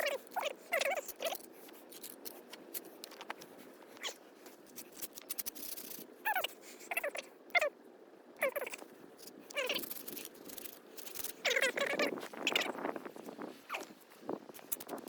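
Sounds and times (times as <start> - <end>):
light scrapes and clicks: 0.0 - 6.5, 8.8 - 15.0.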